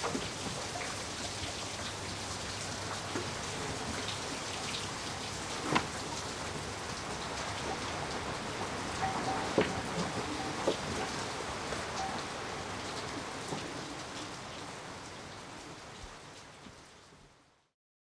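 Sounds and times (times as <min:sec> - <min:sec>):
rain pattering on roof: 0:00.0 - 0:17.7.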